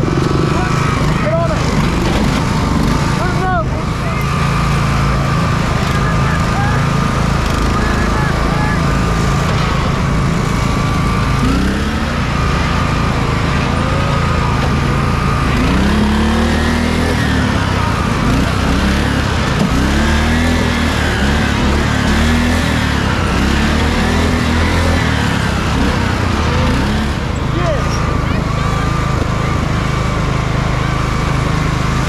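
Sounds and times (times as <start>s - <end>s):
lawn mower engines revving: 0.0s - 32.0s.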